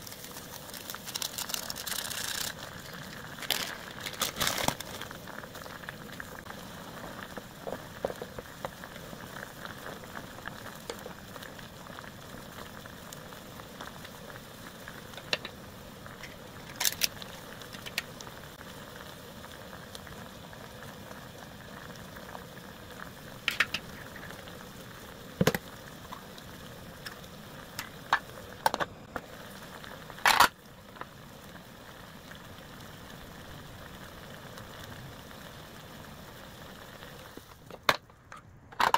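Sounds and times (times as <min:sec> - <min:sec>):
broth boiling in a pot: 0:00.0 - 0:38.9.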